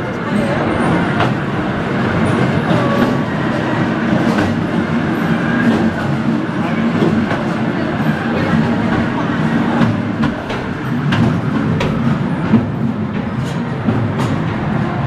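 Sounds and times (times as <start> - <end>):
rattling rumble of wheels on rails: 0.0 - 15.0.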